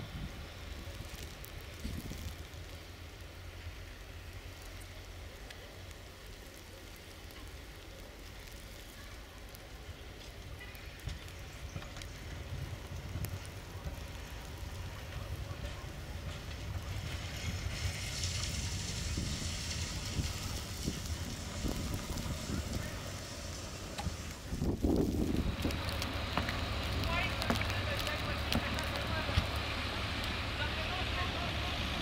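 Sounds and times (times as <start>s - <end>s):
tram rumble with clicks: 0.0s - 32.0s.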